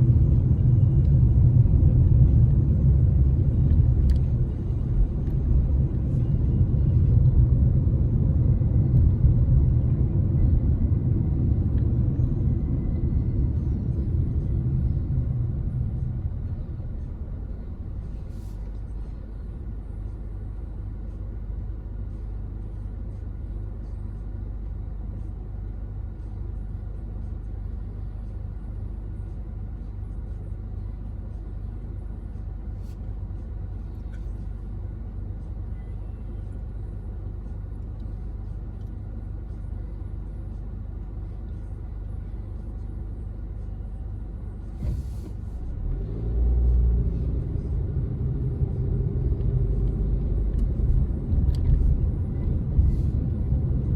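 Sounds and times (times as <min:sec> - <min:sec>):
car engine rumble: 0:00.0 - 0:53.9.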